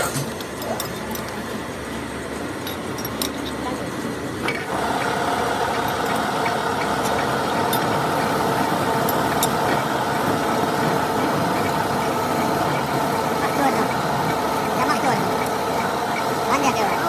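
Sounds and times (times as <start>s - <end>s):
heavy machinery whining: 0.0s - 17.0s.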